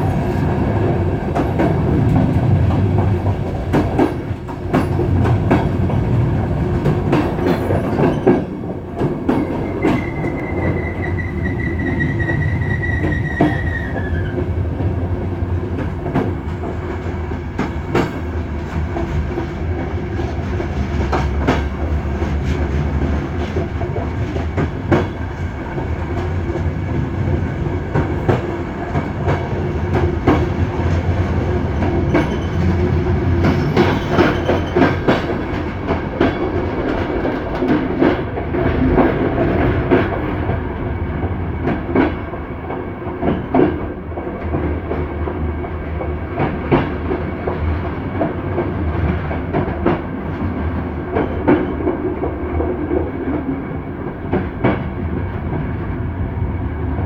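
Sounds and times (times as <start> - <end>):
wheels rumbling on rails: 0.0 - 57.0.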